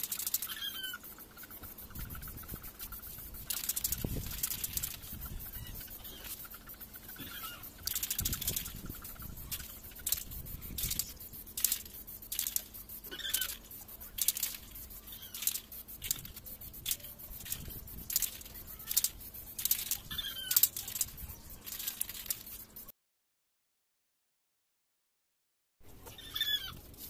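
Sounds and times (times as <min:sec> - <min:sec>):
spray paint can hissing: 0:00.0 - 0:22.9.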